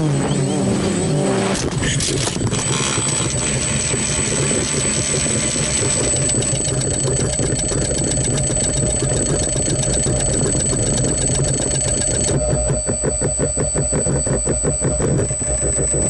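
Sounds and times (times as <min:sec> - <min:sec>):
drone motors humming: 0:00.0 - 0:16.0
fast ticking: 0:02.9 - 0:16.0.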